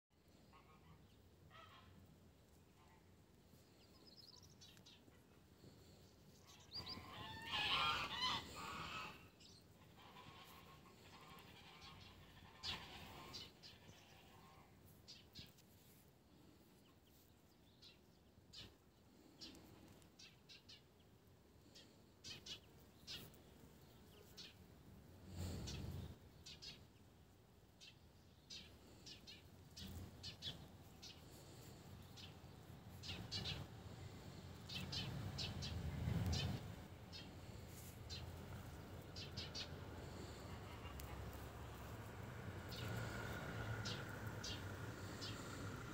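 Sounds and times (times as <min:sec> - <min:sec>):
faint bird calls: 0:00.4 - 0:21.0, 0:27.8 - 0:45.9.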